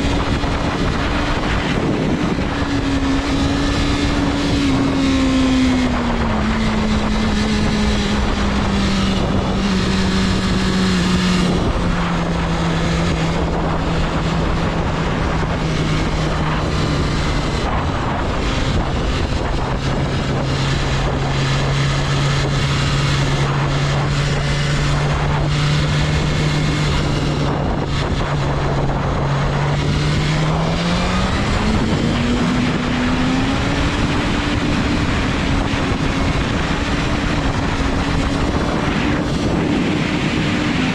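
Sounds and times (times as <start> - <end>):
motorcycle engine running: 0.0 - 40.9
riding wind rushing: 0.0 - 40.9.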